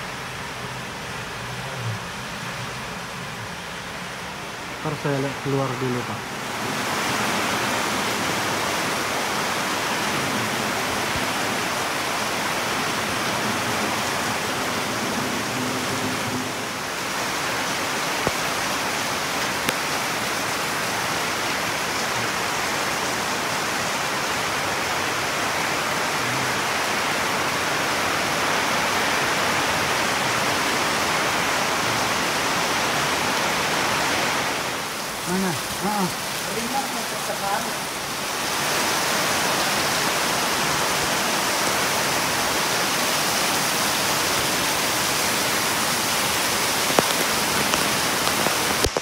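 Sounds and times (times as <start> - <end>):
heavy rain: 0.0 - 49.0
water pouring from gutter: 5.3 - 49.0.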